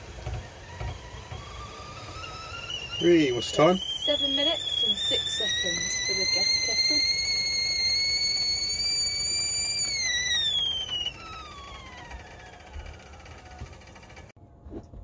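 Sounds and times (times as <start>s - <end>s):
kettle whistling: 0.0s - 14.4s.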